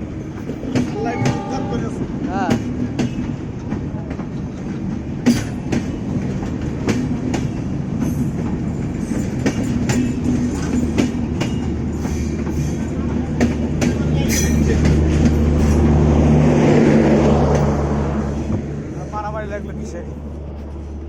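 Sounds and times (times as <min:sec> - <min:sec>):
train rumbling: 0:00.0 - 0:21.0
wheels clacking over rail joints: 0:00.2 - 0:18.8.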